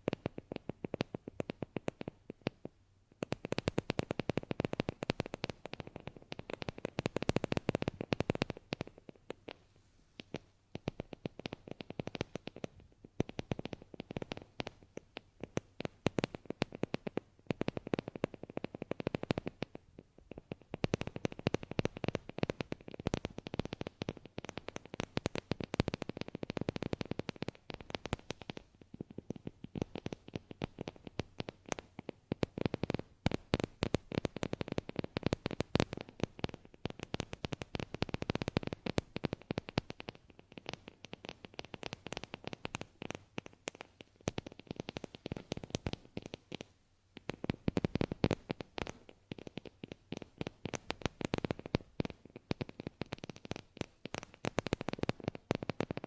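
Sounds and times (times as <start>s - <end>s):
rapid clicking and tapping: 0.0s - 9.6s, 10.2s - 56.0s.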